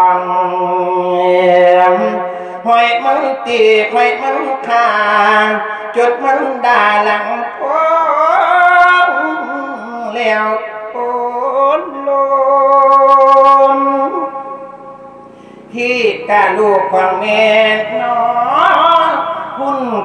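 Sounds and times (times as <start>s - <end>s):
man chanting into microphone: 0.0s - 14.7s, 15.6s - 20.0s.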